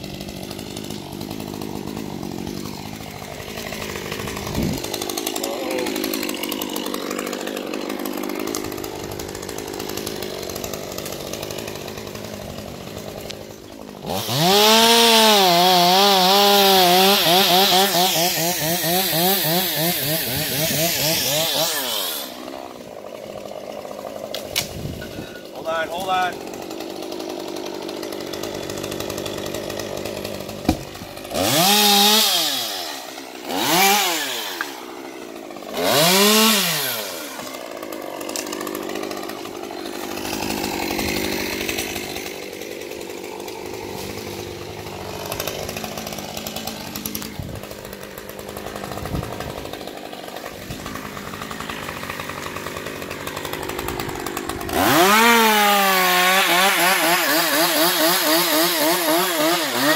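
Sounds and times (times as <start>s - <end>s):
chainsaw cutting tree stem: 0.0s - 59.9s
chainsaw idling and revving: 0.0s - 59.9s.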